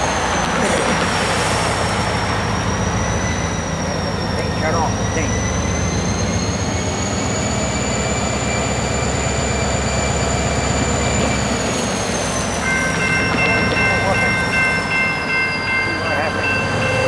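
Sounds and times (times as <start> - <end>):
diesel locomotive engine whine: 0.0 - 17.0
locomotive bell ringing: 0.0 - 17.0.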